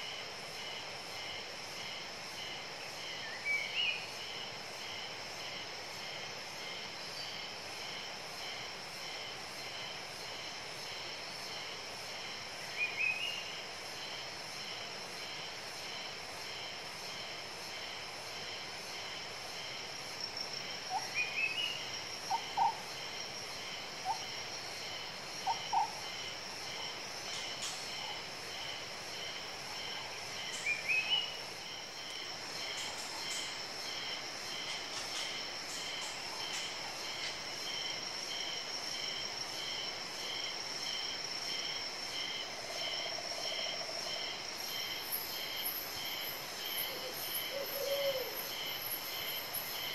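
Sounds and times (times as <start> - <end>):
high insect chorus: 0.0 - 49.9.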